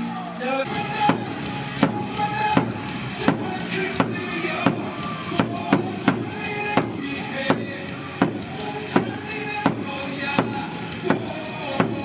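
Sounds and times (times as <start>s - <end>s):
crowd chanting: 0.0s - 12.0s
crowd cheering: 0.0s - 12.0s
music: 0.0s - 12.0s
rhythmic sharp claps: 0.1s - 12.0s.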